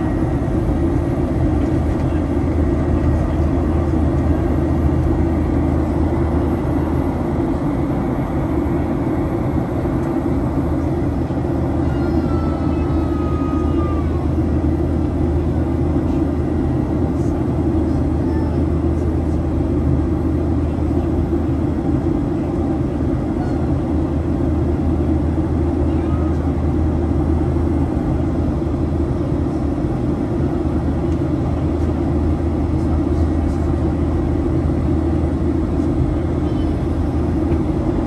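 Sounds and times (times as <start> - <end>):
jet cabin engine and airflow noise: 0.0 - 38.0.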